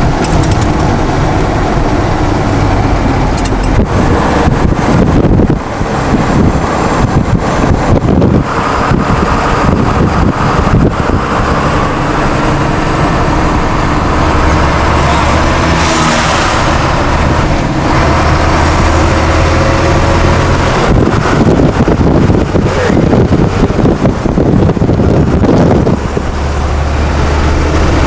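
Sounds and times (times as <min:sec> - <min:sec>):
road and engine noise in vehicle: 0:00.0 - 0:28.0
rush of passing air: 0:00.0 - 0:28.0.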